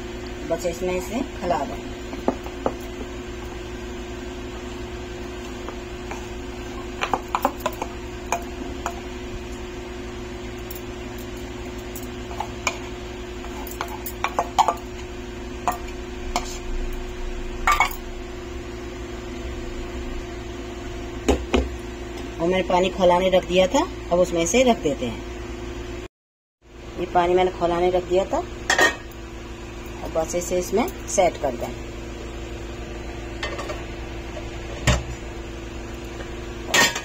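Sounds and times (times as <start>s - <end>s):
steady low hum: 0.0s - 26.1s, 26.7s - 37.0s.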